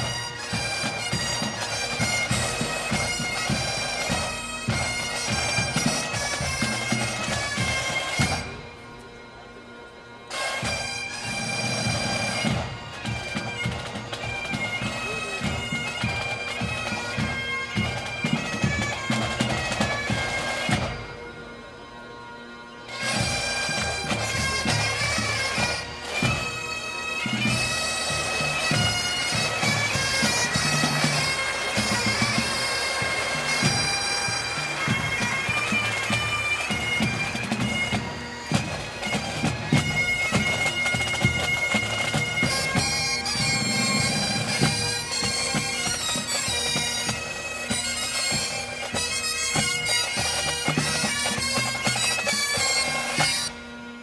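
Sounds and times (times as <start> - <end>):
bagpipe band playing: 0.0 - 54.0.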